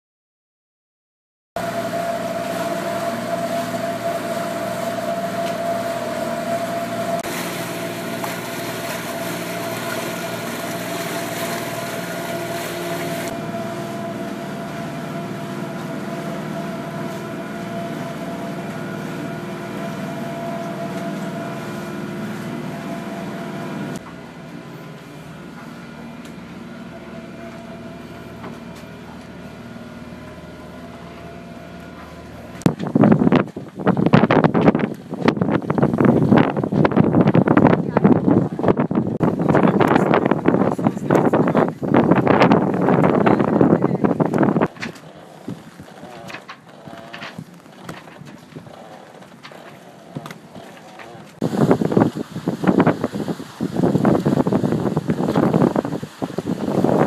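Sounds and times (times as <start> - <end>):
boat engine hum: 1.6 - 57.0.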